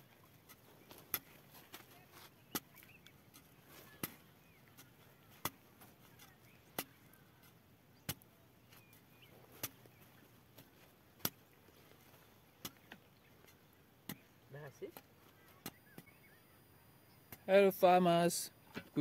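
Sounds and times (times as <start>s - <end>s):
hand hoe chopping into soil: 0.2s - 16.2s.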